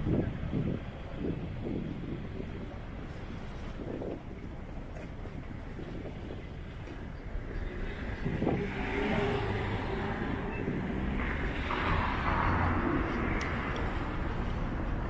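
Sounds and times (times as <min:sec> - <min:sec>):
car traffic passing: 0:00.0 - 0:15.0
steady low rumble: 0:00.0 - 0:15.0.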